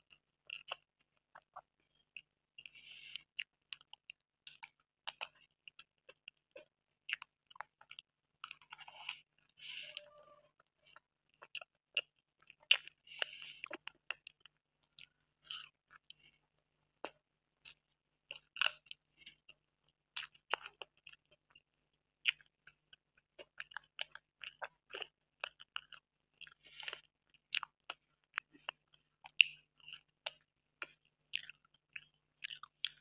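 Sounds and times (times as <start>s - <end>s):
person chewing: 0.1s - 16.4s, 17.0s - 33.0s.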